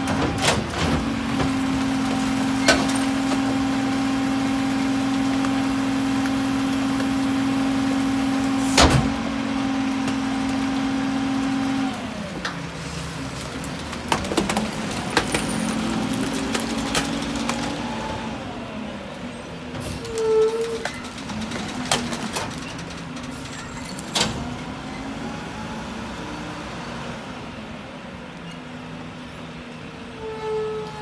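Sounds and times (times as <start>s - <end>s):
truck engine and body rattling: 0.0s - 31.0s.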